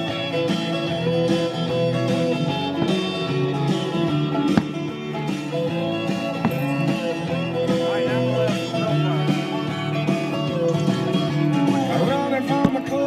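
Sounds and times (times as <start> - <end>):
country music with strummed guitar: 0.0 - 13.0.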